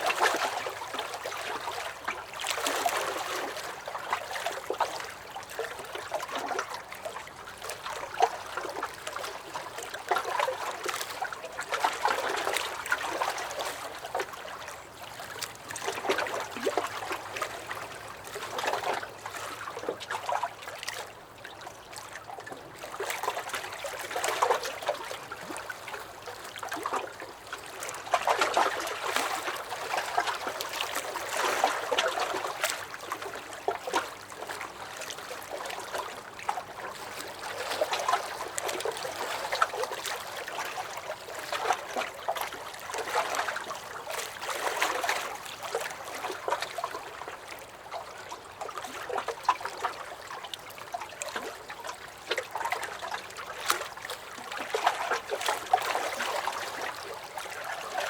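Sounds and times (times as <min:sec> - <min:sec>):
small splashes and drips: 0:00.0 - 0:58.0
waves lapping against a dock: 0:00.0 - 0:58.0.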